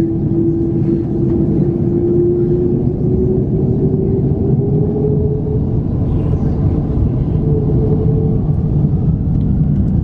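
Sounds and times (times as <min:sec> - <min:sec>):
engine whine rising in pitch: 0:00.0 - 0:10.0
jet engine rumble in cabin: 0:00.0 - 0:10.0.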